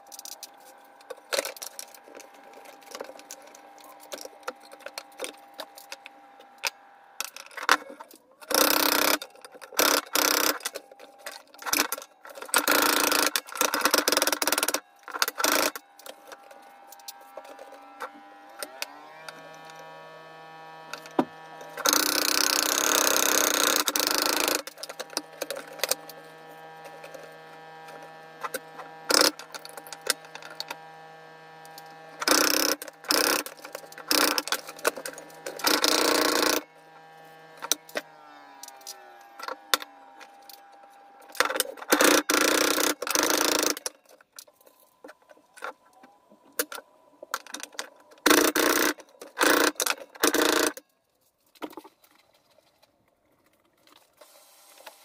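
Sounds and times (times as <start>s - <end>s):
power tool cutting material: 0.0s - 44.2s, 45.6s - 50.8s
electric power tool humming: 0.0s - 50.8s.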